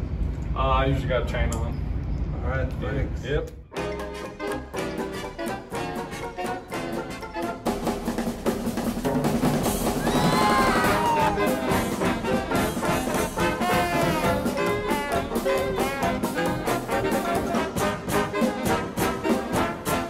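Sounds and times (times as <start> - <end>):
brass band music with drums: 3.7 - 20.0.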